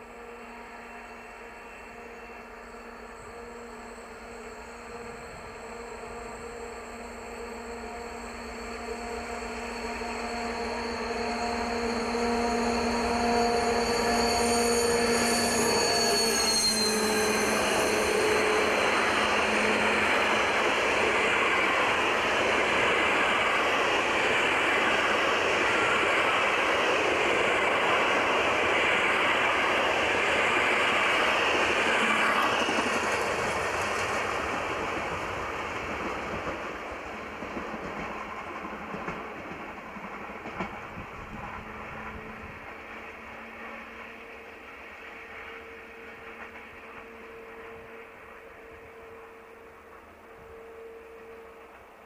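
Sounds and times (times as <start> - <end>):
diesel locomotive engine drone: 0.0 - 52.0
train wheels on rails: 0.0 - 52.0.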